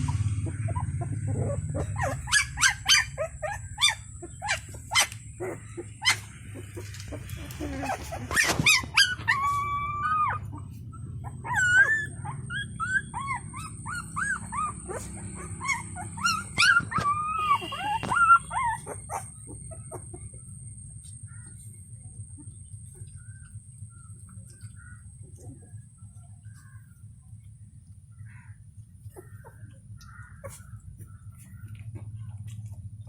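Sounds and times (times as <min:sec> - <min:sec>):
puppies whining and yelping: 0:00.0 - 0:27.6, 0:28.5 - 0:33.0.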